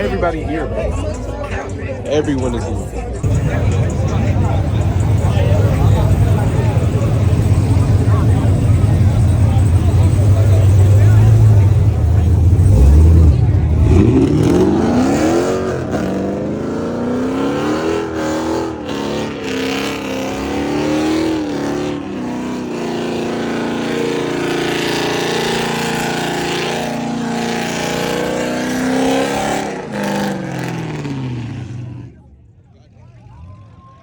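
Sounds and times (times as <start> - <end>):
car engine revving: 2.3 - 32.3.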